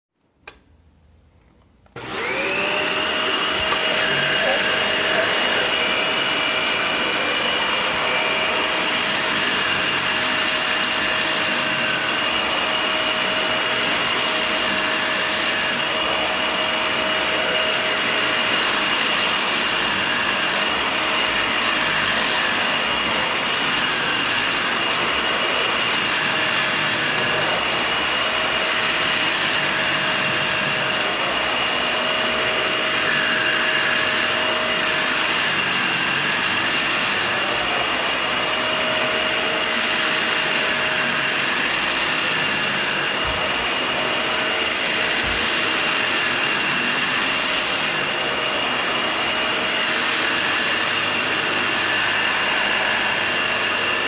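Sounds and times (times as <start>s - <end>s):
vacuum cleaner motor whine: 1.9s - 54.0s.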